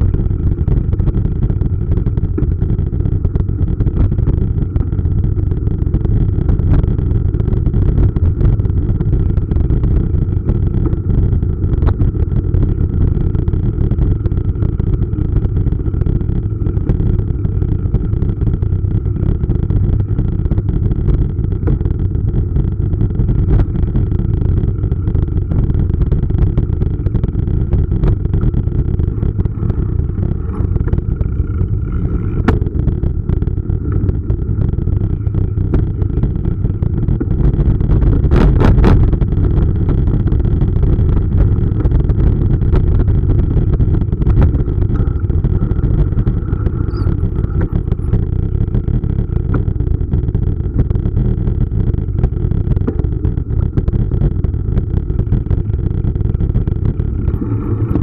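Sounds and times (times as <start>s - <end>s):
bike tyres rolling on gravel: 0.0s - 51.4s
wind buffeting microphone: 0.0s - 58.0s.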